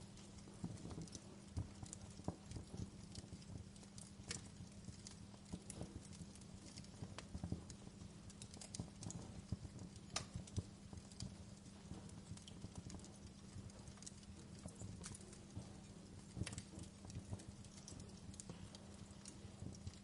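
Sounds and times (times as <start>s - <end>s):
fire crackling and popping: 0.0s - 20.0s
low steady hum: 0.0s - 20.0s.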